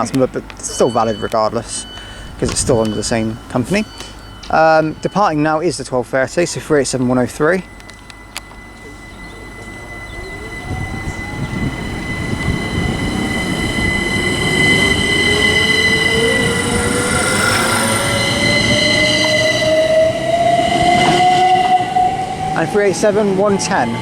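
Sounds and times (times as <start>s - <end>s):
electric train traction whine: 0.0s - 24.0s
rail rumble: 0.0s - 24.0s.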